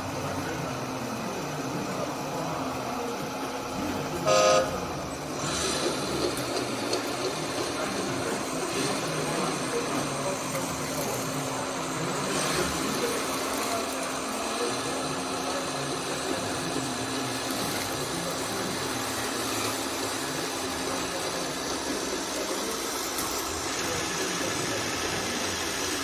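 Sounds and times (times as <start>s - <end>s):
engine running with hiss: 0.0s - 26.0s.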